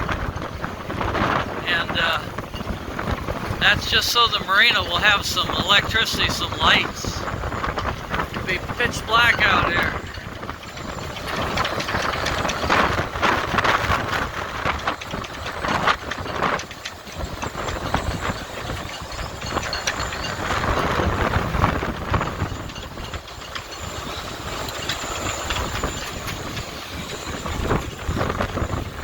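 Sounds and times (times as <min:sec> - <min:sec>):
gusting wind rumble: 0:00.0 - 0:29.0.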